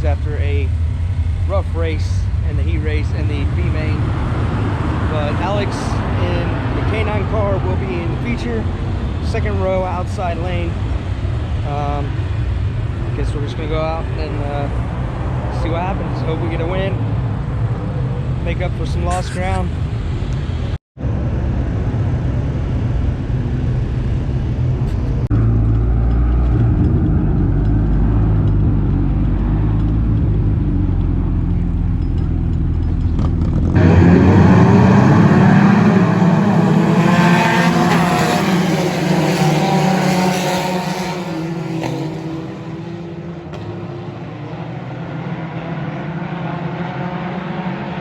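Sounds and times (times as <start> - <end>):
race car engines passing: 0.0 - 48.0.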